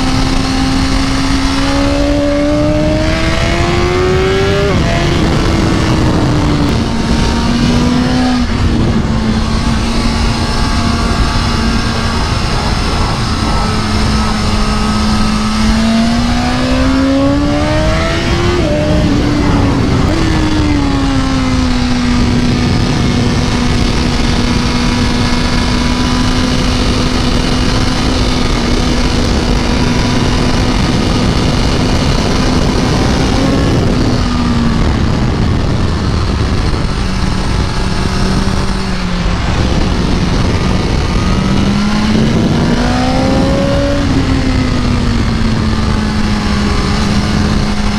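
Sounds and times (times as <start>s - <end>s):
loud rushing noise: 0.0s - 47.9s
motorcycle engine at full throttle: 0.0s - 47.9s.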